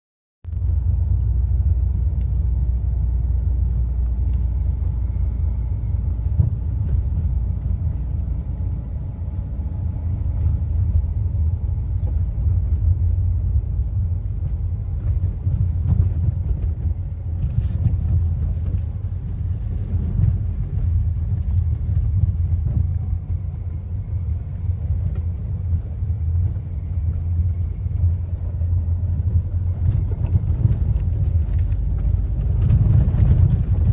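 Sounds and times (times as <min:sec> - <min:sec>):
motorcycle engine rumble: 0:00.5 - 0:33.9.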